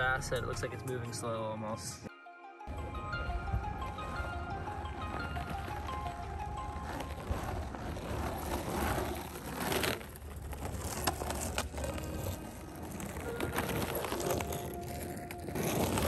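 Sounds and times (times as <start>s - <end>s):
skateboard wheels rolling on asphalt: 2.7s - 16.0s.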